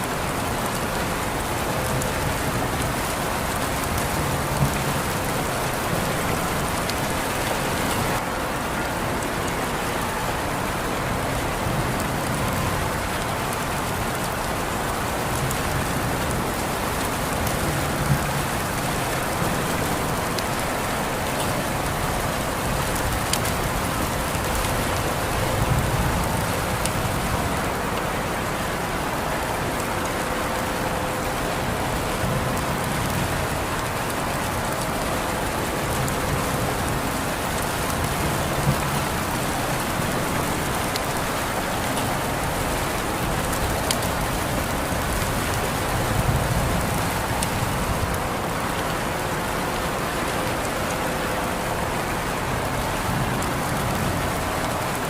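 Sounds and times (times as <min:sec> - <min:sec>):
raindrops ticking: 0:00.0 - 0:55.0
steady rain falling: 0:00.0 - 0:55.0.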